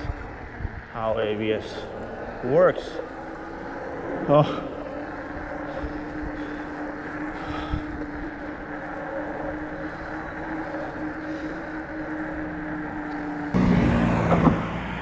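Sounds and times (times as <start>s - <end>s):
wind rumbling on microphone: 0.0s - 14.8s
electric motor whining: 0.0s - 15.0s
road noise: 0.0s - 15.0s.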